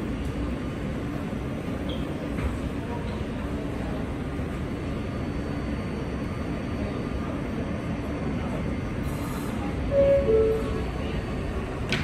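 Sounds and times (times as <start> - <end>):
subway train rumble and hum: 0.0 - 12.0.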